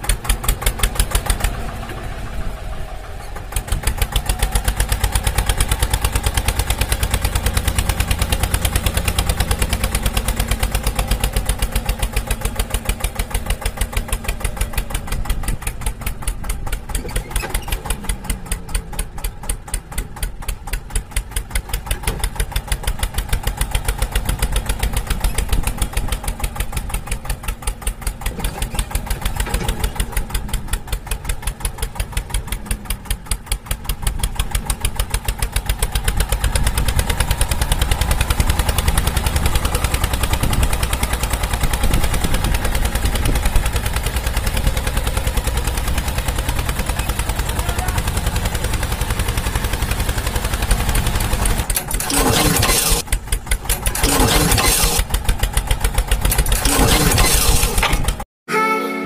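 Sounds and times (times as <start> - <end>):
tractor engine chugging: 0.0 - 58.2.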